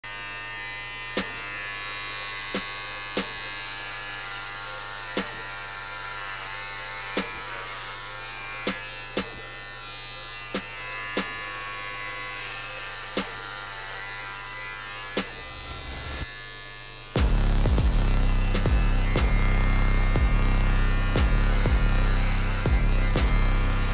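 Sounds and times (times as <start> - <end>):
hair clippers buzzing: 0.0 - 23.9.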